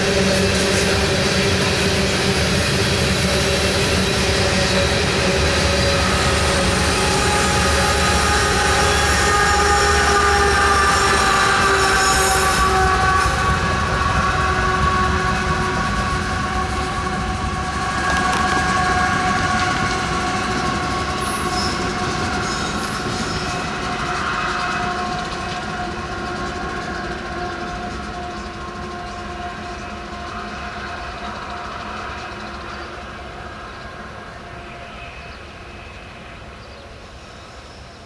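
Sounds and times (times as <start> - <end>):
freight train rumbling on rails: 0.0 - 38.0.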